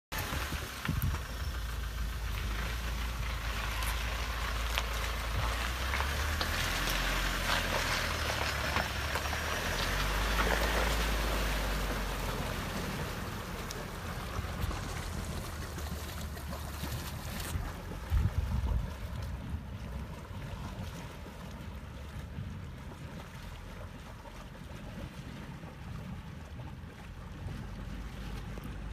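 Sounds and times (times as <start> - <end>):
low engine rumble: 0.0 - 28.9
water rushing and splashing: 0.1 - 28.9.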